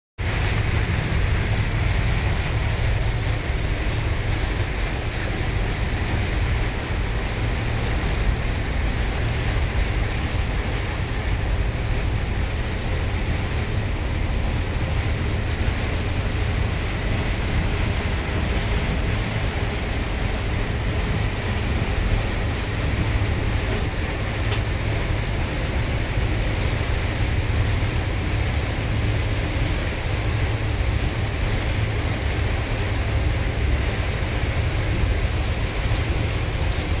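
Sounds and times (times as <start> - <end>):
bus engine and tyres rumbling: 0.2 - 37.0
rain hissing on wet road: 0.2 - 37.0.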